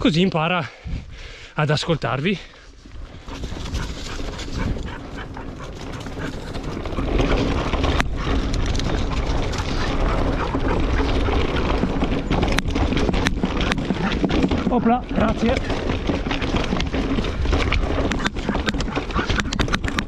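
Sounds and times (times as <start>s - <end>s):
wind rumbling on microphone: 0.0s - 1.4s, 2.8s - 20.0s
bike rattling: 1.7s - 20.0s
bike tyres crackling over leaves: 2.0s - 20.0s.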